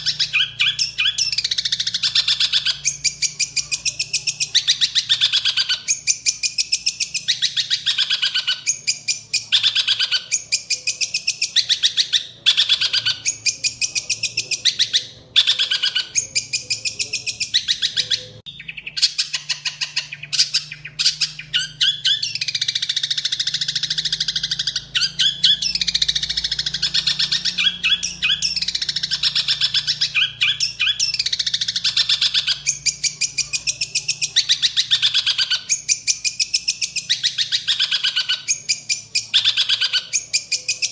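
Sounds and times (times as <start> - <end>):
bird harsh chattering song: 0.0 - 40.9.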